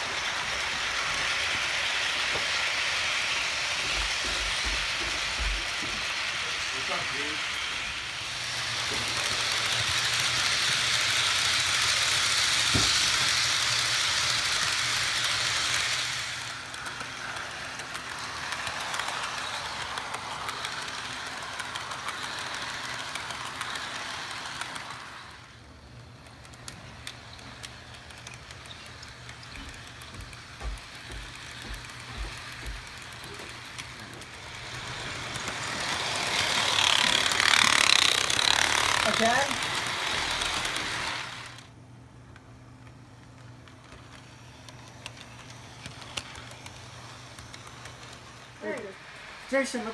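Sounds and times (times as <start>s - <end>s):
model train wheels rattling on rail: 0.0s - 41.7s, 43.2s - 49.9s.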